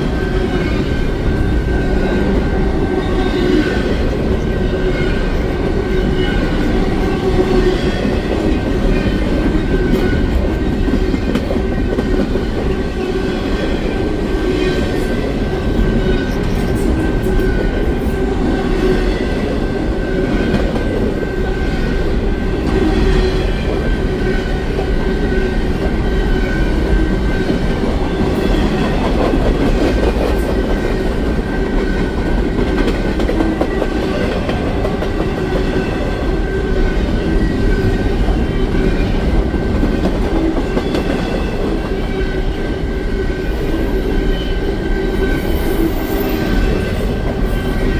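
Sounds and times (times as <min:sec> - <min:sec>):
train wheels on rails: 0:00.0 - 0:47.9.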